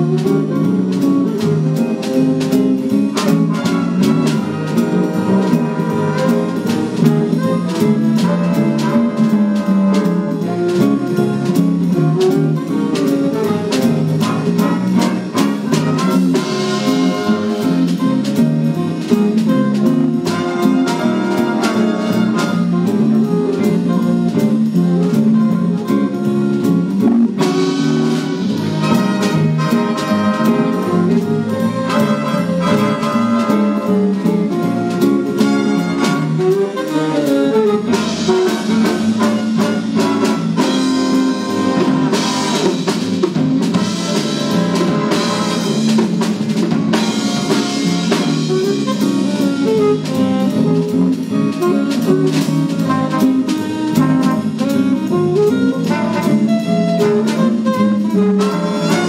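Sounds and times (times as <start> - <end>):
bass: 0.0 - 59.0
drum kit: 0.0 - 59.0
electric guitar: 0.0 - 59.0
saxophones and brass: 0.0 - 59.0.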